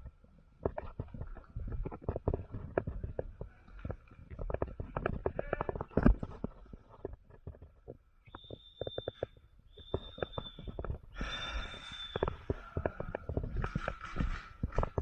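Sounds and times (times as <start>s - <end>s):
irregular clicks and knocks: 0.0s - 11.3s, 12.1s - 15.0s.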